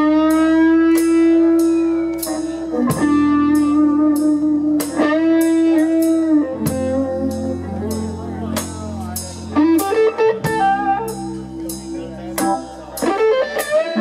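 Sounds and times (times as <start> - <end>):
blues band playing live: 0.0 - 14.0
electric guitar sustained lead notes: 0.0 - 14.0.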